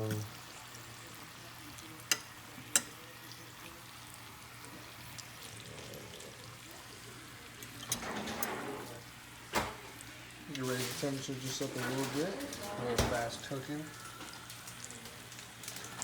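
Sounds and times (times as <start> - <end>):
chicken sizzling in a pan: 0.0 - 8.0, 8.9 - 16.0.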